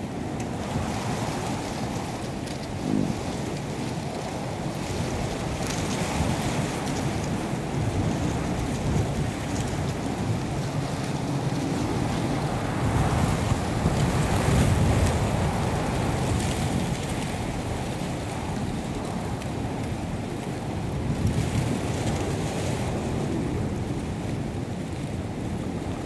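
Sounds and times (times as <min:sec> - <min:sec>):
wind blowing on microphone: 0:00.0 - 0:26.0.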